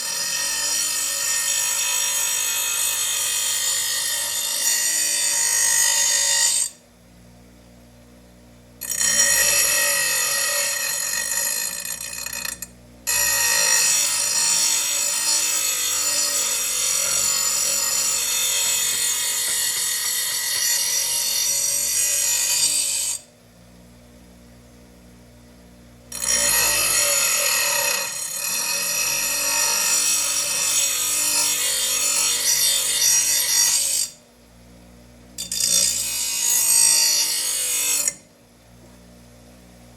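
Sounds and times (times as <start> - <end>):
power grinder sharpening blade: 0.0 - 6.8, 8.8 - 23.3, 26.1 - 34.2, 35.4 - 38.2.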